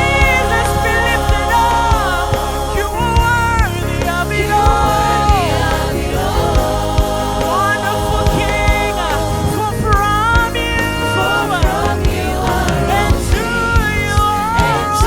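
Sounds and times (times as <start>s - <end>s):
band with bass and drums: 0.0s - 15.0s
voices singing gospel: 0.0s - 15.0s.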